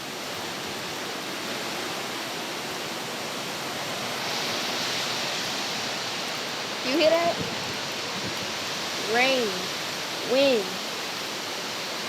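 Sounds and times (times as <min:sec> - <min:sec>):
hurricane wind and rain: 0:00.0 - 0:12.0.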